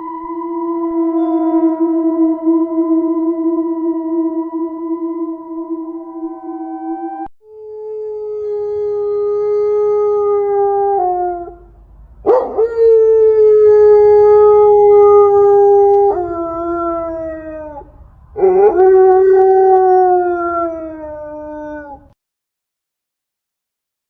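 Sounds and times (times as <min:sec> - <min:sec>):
dog howling: 0:00.0 - 0:22.2.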